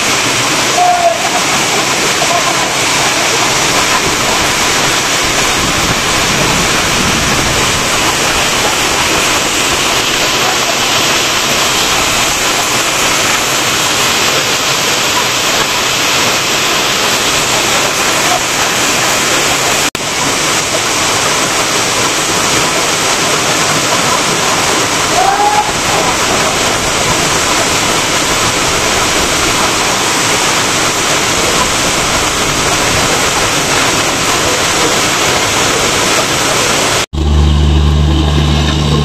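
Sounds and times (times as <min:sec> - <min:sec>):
heavy rain on metal roof: 0:00.0 - 0:39.0.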